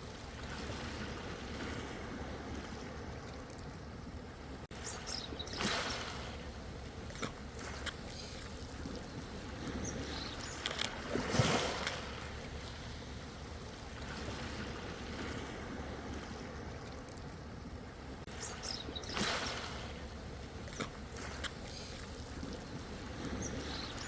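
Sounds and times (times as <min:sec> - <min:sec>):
ocean waves washing on shore: 0:00.0 - 0:24.0.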